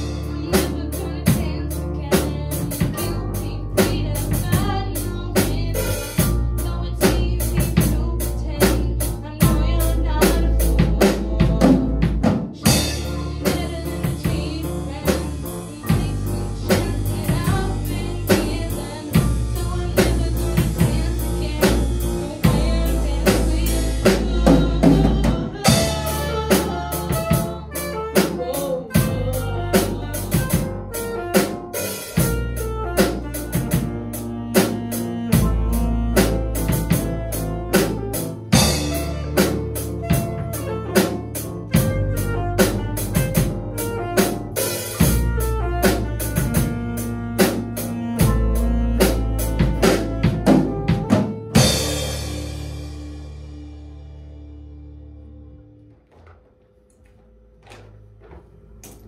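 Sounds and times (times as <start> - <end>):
drum kit steady beat: 0.0 - 53.4
saxophone: 0.0 - 53.4
bass: 0.0 - 59.0
piano: 0.0 - 59.0.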